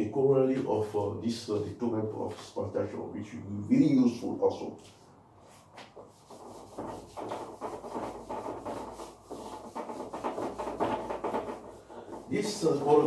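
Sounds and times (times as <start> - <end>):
whiteboard being wiped: 0.5 - 2.9, 4.8 - 13.0.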